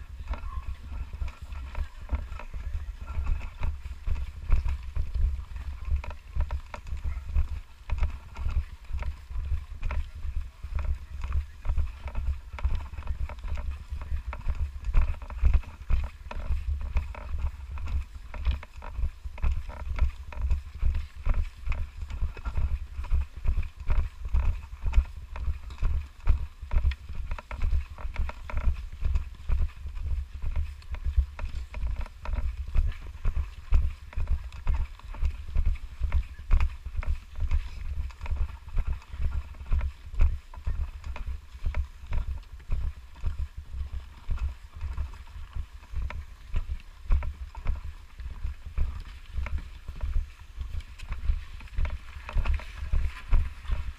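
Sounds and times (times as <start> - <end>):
camera movement rumble: 0.0 - 53.9
footsteps crunching through snow: 0.0 - 53.9.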